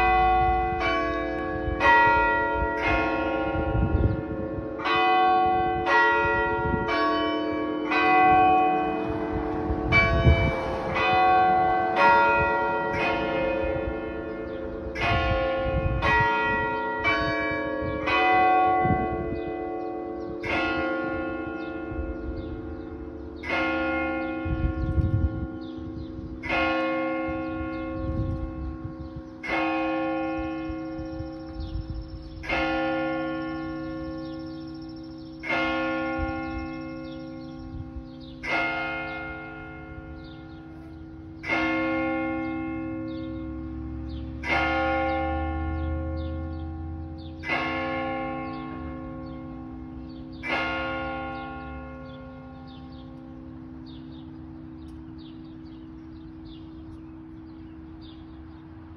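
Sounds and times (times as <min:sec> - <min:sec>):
church bells ringing: 0:00.0 - 0:58.9.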